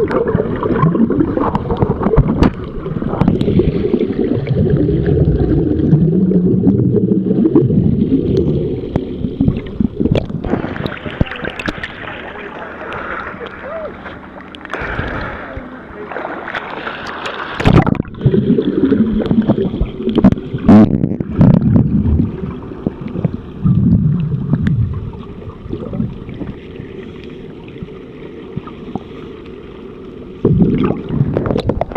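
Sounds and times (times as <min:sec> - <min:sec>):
underwater gurgling and bubbling: 0:00.0 - 0:31.9
water slapping and splashing: 0:00.0 - 0:31.9.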